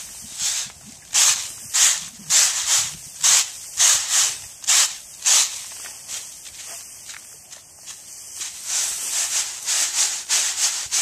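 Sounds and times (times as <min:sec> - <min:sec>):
grain swishing on bamboo tray: 0:00.0 - 0:11.0.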